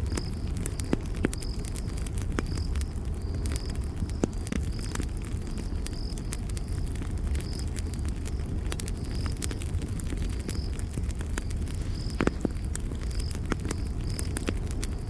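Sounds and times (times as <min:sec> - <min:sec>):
campfire crackling and popping: 0:00.0 - 0:15.0
cricket chirping: 0:00.0 - 0:15.0.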